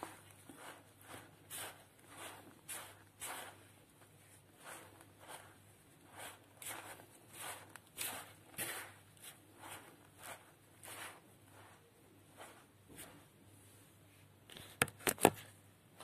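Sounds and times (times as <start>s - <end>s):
hand scrunching crumbly dough: 0.0s - 13.4s.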